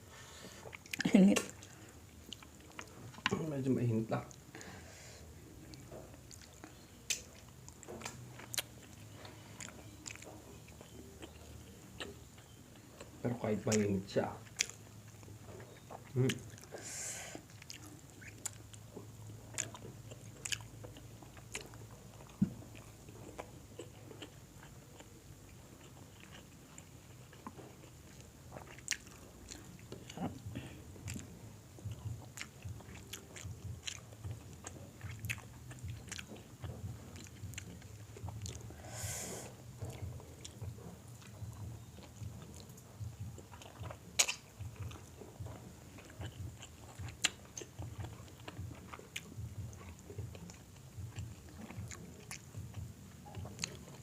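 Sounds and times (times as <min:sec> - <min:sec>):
chewing crispy food: 0:00.2 - 0:54.0.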